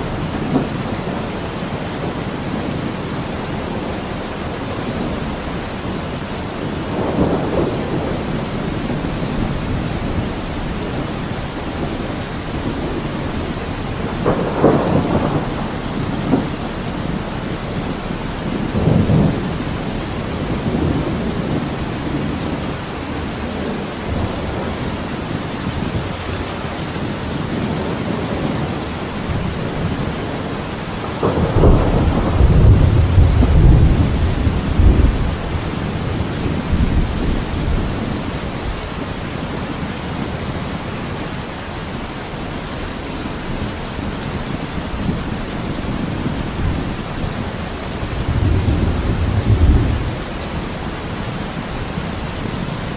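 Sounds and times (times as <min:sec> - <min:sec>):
rolling thunder: 0:00.0 - 0:40.4, 0:42.5 - 0:52.9
heavy rain: 0:00.0 - 0:52.9.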